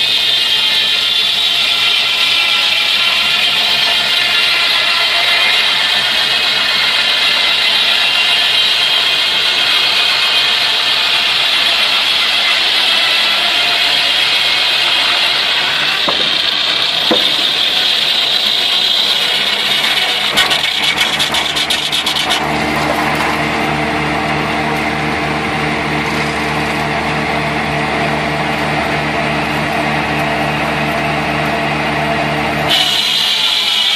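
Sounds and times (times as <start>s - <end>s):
sawmill saw cutting wood: 0.0s - 33.9s.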